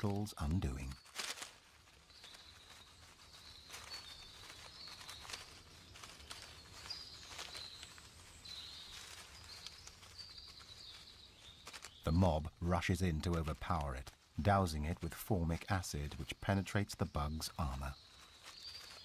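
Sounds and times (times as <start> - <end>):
insects scratching on bark: 0.0 - 19.0.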